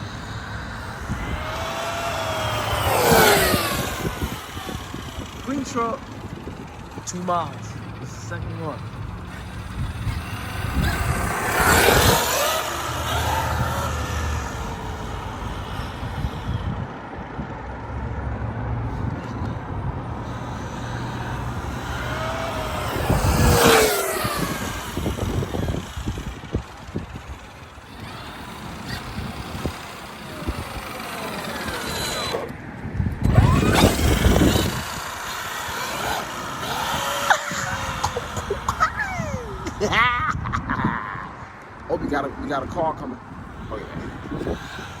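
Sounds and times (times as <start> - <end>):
tyre noise: 0.0 - 16.8, 18.9 - 41.2
toy truck motor whining: 0.0 - 17.2, 18.8 - 40.8, 41.5 - 45.0.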